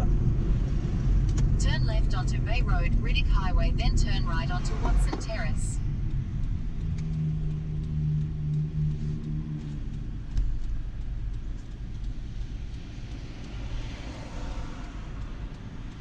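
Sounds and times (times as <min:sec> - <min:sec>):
car engine hum: 0:00.0 - 0:16.0
road rumble: 0:00.0 - 0:16.0.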